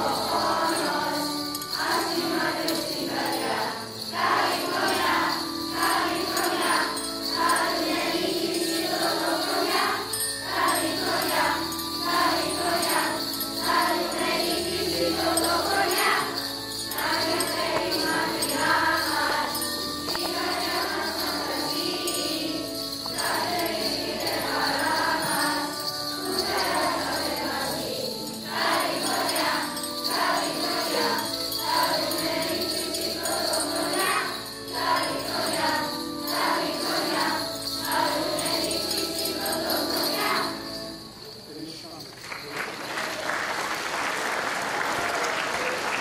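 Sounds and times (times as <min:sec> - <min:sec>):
children's choir singing: 0:00.0 - 0:41.0
jingle bells shaken: 0:00.0 - 0:43.2.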